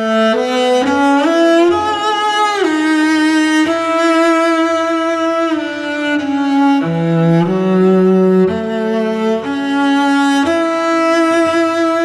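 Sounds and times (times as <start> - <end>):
bowed cello melody: 0.0 - 12.0.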